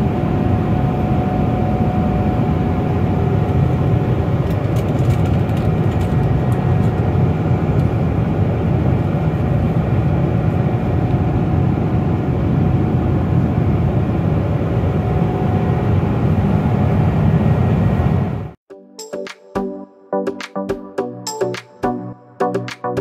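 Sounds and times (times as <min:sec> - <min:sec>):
faint steady whine: 0:00.0 - 0:18.5
airliner cabin roar: 0:00.0 - 0:18.6.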